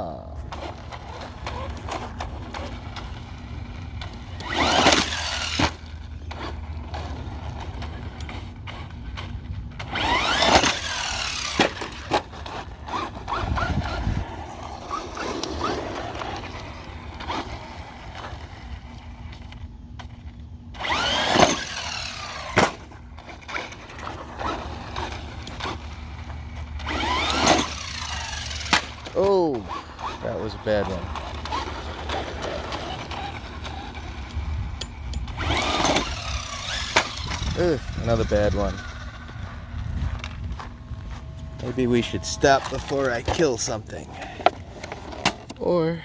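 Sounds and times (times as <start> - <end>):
electric motor whining: 0.1 - 45.8.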